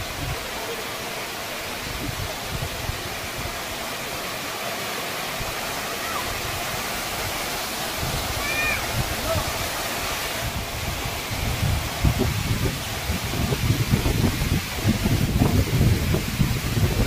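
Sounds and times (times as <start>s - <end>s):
waterfall splashing onto rock: 0.0s - 17.0s.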